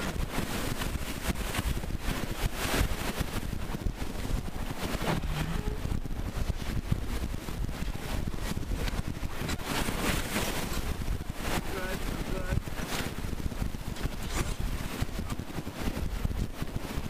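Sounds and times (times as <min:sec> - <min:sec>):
waves splashing along hull: 0:00.0 - 0:17.0
wind buffeting microphone: 0:00.0 - 0:17.0.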